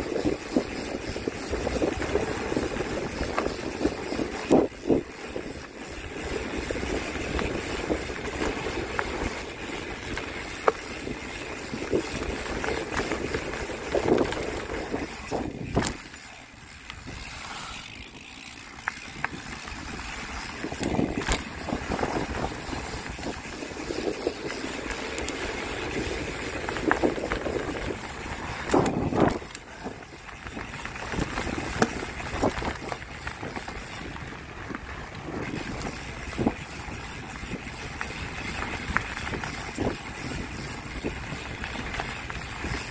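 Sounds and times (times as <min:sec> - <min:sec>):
steady rushing noise: 0:00.0 - 0:42.9.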